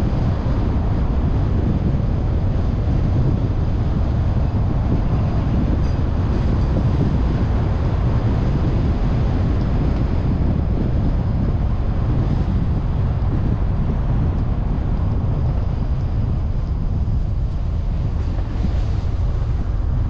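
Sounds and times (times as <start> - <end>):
car road and engine rumble: 0.0 - 20.0
wind noise on microphone: 0.0 - 20.0.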